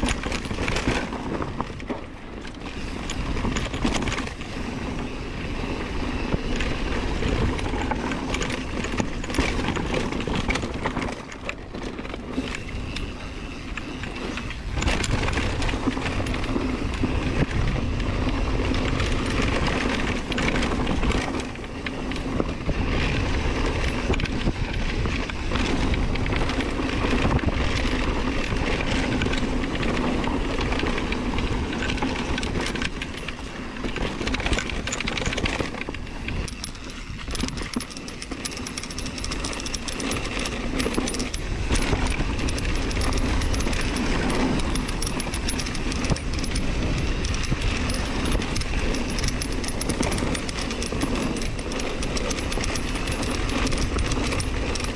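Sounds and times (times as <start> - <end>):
bike rattling on rough trail: 0.0 - 54.9
wind rumble on microphone: 0.0 - 54.9.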